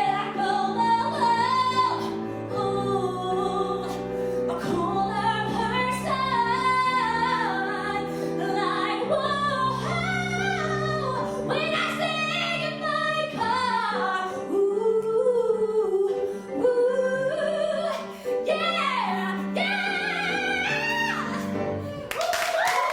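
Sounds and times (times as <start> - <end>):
woman singing: 0.0 - 22.9.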